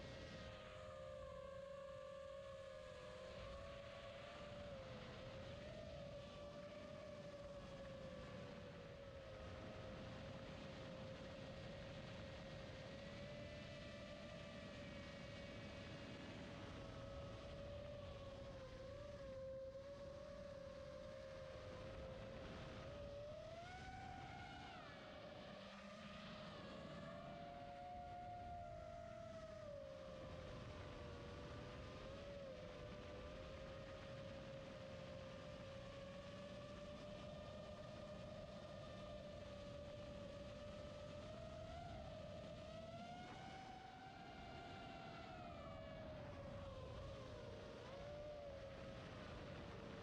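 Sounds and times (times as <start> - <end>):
faint drone motors whining: 0.0 - 50.0.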